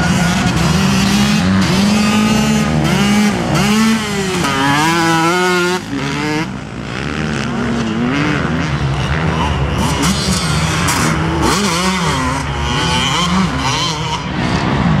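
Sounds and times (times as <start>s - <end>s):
motocross engines revving: 0.0s - 15.0s.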